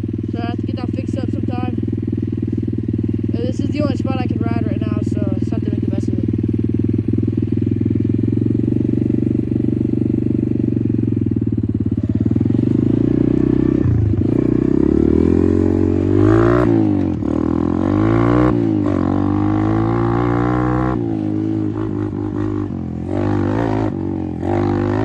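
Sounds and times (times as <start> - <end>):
dirt bike engine idling and revving: 0.0 - 25.0.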